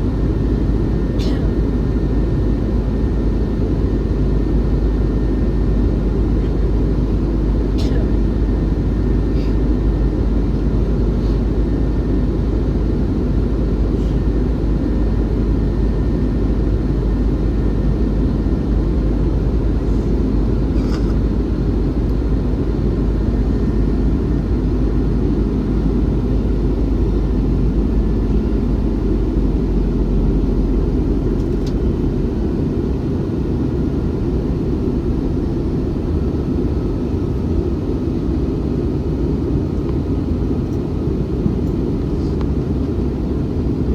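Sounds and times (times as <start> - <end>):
airliner cabin roar: 0.0 - 43.9.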